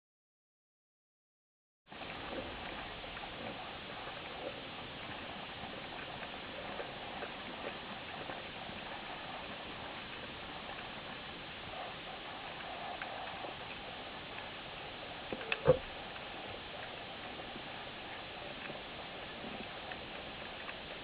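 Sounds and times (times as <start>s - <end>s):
crackle of small clicks: 2.0s - 21.0s
underwater hiss: 2.2s - 21.0s.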